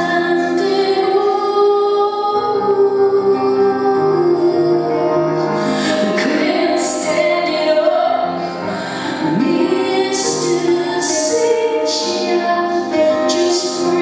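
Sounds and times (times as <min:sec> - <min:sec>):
piano chords: 0:00.0 - 0:14.0
woman singing: 0:00.0 - 0:14.0.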